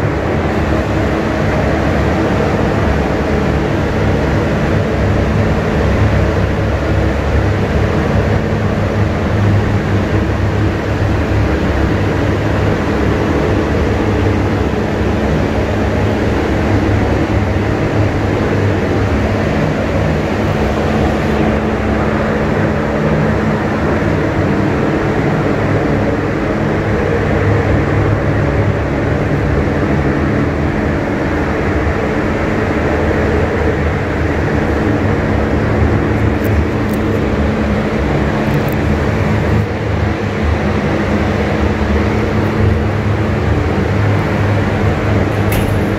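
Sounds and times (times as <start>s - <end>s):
ventilation fans whirring: 0.0s - 45.9s.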